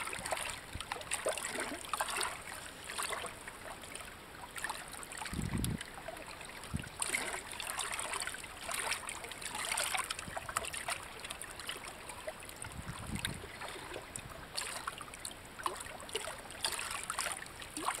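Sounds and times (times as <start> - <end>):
stream water trickling over rocks: 0.0 - 18.0.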